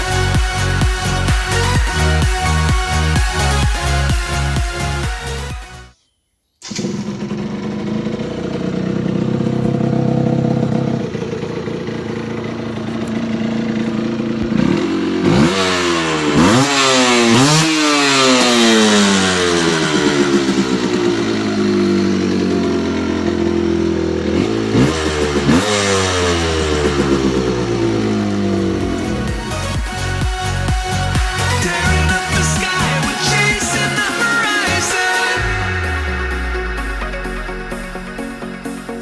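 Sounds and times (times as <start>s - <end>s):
two-stroke engine idling and revving: 0.0s - 5.7s, 6.7s - 39.0s.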